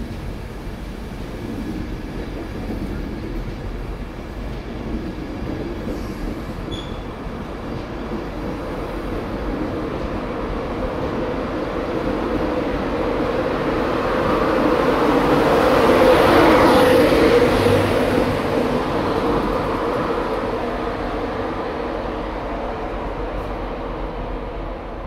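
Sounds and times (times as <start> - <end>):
electric locomotive humming: 0.0 - 25.0
train coaches rolling past: 0.0 - 25.0.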